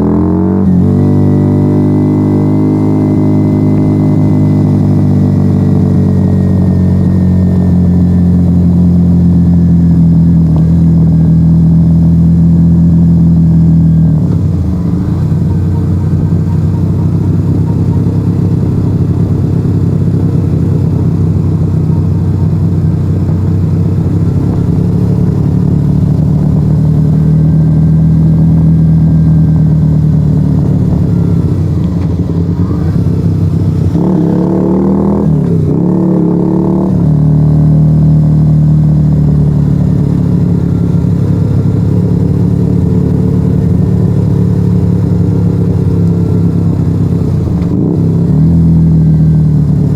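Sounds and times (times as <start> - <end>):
motorcycle engine running loud: 0.0 - 49.9.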